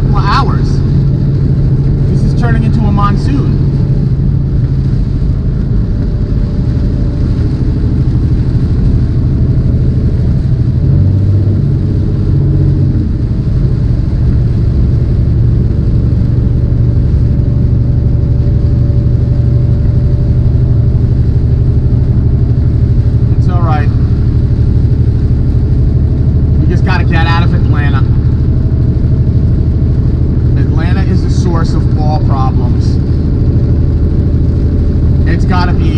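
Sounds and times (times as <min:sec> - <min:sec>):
heavy rain: 0:00.0 - 0:35.9
truck diesel engine drone: 0:00.0 - 0:35.9
wet tyre noise: 0:00.0 - 0:35.9.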